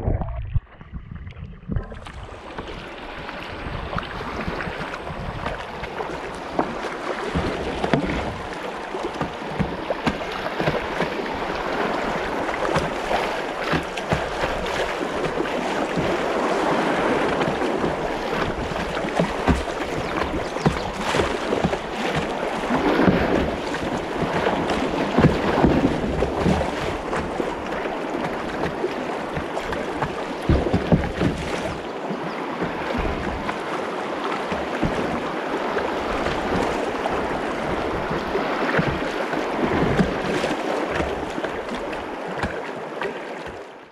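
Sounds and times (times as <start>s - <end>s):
water knocking against kayak hull: 0.0s - 43.9s
river rushing and splashing: 1.9s - 43.9s.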